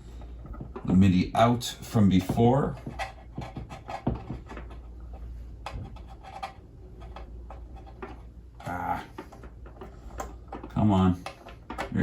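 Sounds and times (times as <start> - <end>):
cables clicking and rubbing: 0.0 - 12.0
low steady hum: 0.0 - 12.0.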